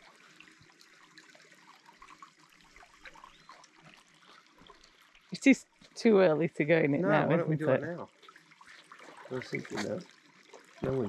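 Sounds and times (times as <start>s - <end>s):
water trickling and lapping: 0.0s - 11.0s.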